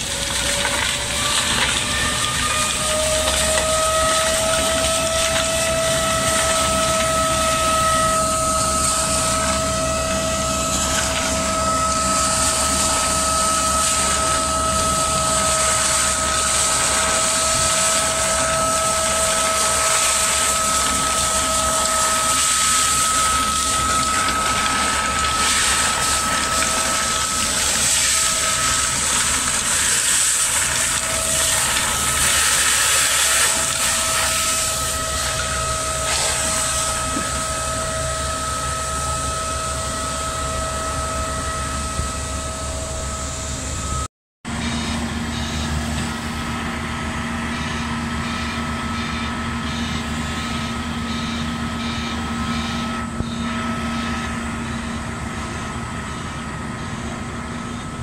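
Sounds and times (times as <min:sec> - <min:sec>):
excavator engine humming: 0:00.0 - 0:58.0
rail machinery running with whine: 0:00.0 - 0:58.0.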